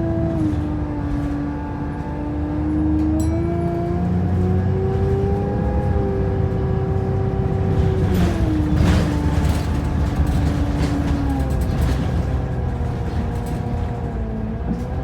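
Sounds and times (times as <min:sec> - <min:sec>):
bus drivetrain rumble: 0:00.0 - 0:15.0.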